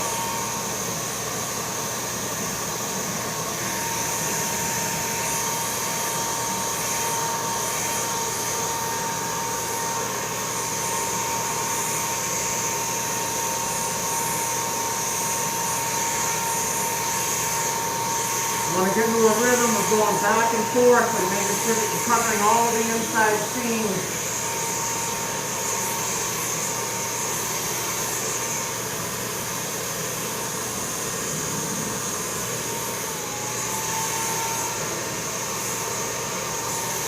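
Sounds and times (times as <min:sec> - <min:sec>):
electric paint spray gun whirring: 0:00.0 - 0:37.0.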